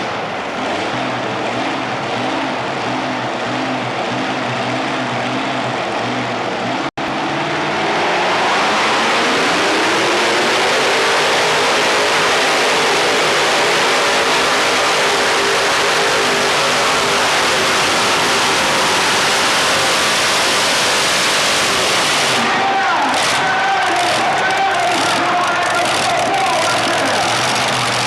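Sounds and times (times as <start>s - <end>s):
tractor engines at full power: 0.0s - 28.0s.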